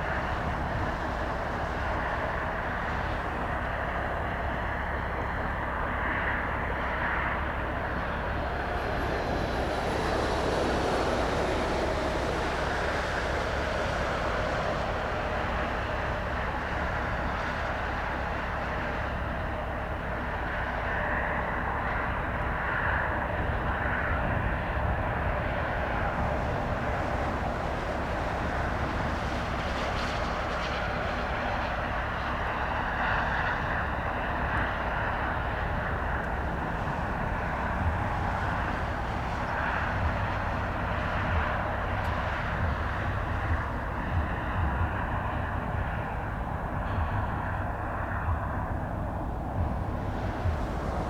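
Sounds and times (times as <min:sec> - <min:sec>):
distant train rumble: 0:00.0 - 0:51.0.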